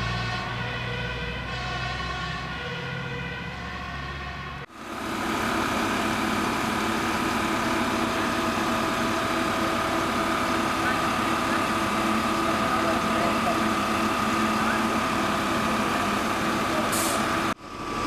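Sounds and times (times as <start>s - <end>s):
distant fire engine siren: 0.0s - 18.0s
fire engine idling whine: 0.0s - 18.0s.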